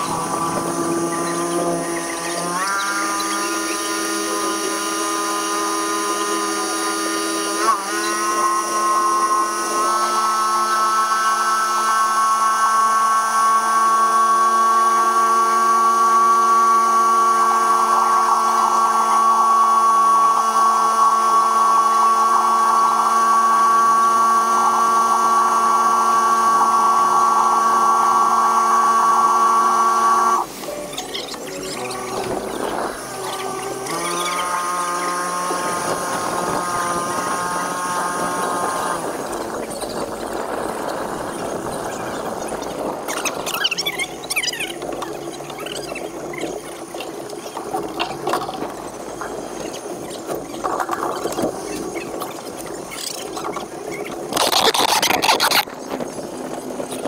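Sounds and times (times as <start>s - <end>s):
small motor whining: 0.0s - 57.0s.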